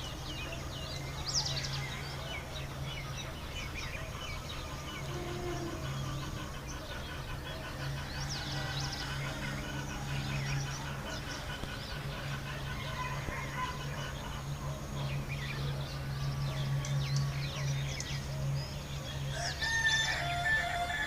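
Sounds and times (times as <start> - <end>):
small birds chirping: 0.0 - 20.2
steady low hum: 0.0 - 21.0.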